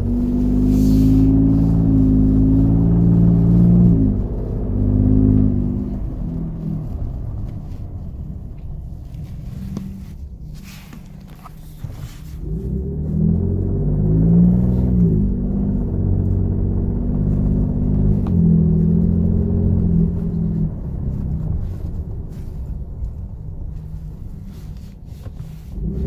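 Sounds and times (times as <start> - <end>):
truck engine accelerating: 0.0 - 24.9.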